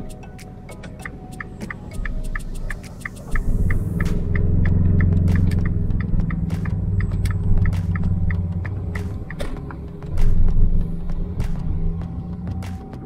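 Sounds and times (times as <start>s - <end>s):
car engine hum: 0.0s - 13.0s
turn signal ticking: 0.0s - 13.0s.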